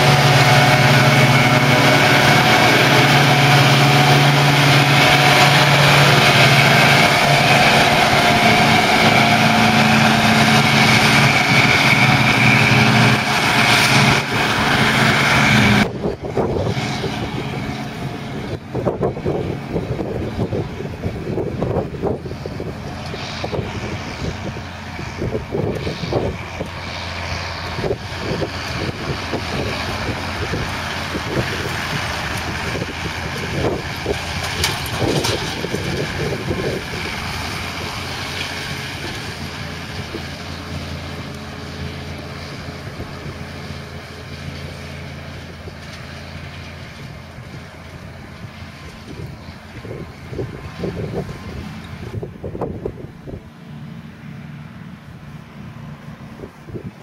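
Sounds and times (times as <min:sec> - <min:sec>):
wind buffeting microphone: 0:00.0 - 0:53.7, 0:56.1 - 0:57.0
tractor diesel engine running: 0:00.0 - 0:57.0.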